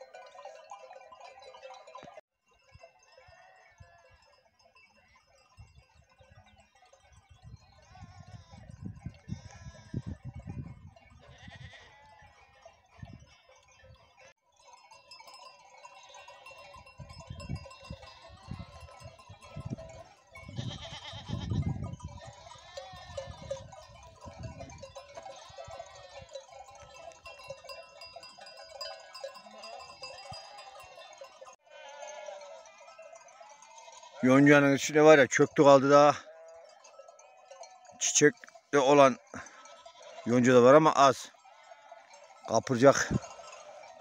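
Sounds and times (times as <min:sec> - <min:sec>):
sheep and goats bleating: 0:03.1 - 0:05.4, 0:07.8 - 0:14.3, 0:15.2 - 0:44.0.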